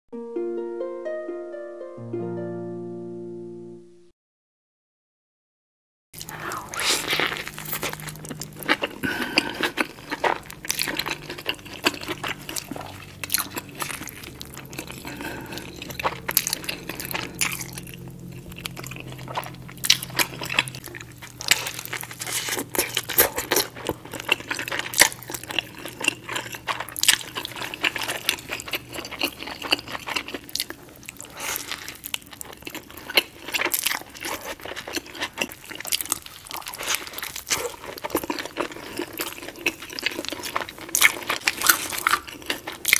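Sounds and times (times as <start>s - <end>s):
biting and chewing: 6.2s - 42.9s.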